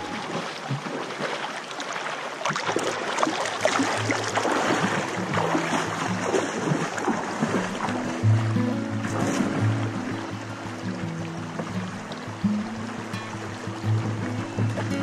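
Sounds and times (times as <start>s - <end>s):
person wading through water: 0.0s - 15.0s
stream rushing over rocks: 0.0s - 15.0s.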